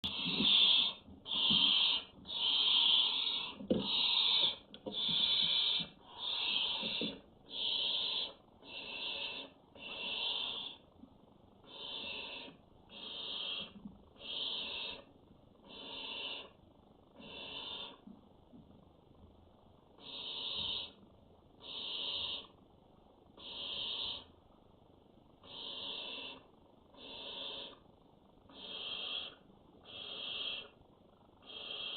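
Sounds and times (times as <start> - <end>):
owl chicks rasping calls: 0.0 - 11.0, 11.6 - 18.1, 20.0 - 22.6, 23.3 - 24.3, 25.4 - 27.8, 28.5 - 30.8, 31.4 - 31.9.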